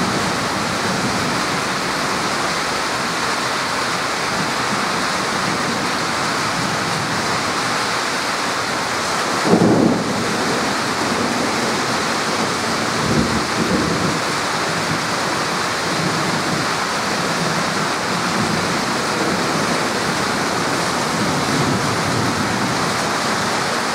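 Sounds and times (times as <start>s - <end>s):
torrential rain: 0.0s - 23.9s.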